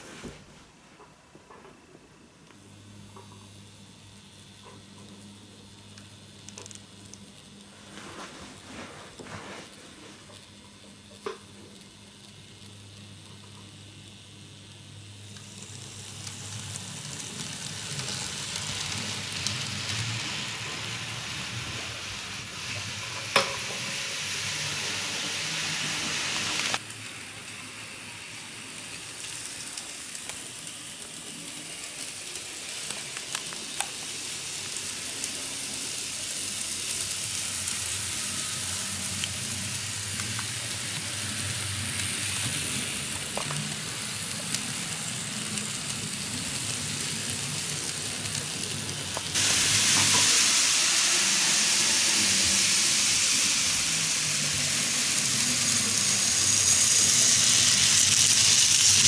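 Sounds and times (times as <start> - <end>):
model train running on track: 2.6 - 7.6, 9.9 - 59.0.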